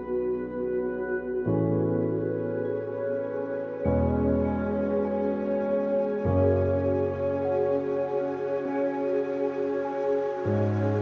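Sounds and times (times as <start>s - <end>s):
ambient music with soft chords: 0.0s - 11.0s.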